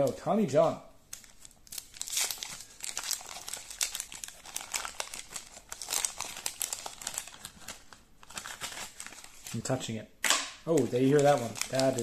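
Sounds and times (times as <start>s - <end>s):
paper wrapper crinkling and tearing: 1.1s - 9.8s, 10.7s - 12.0s.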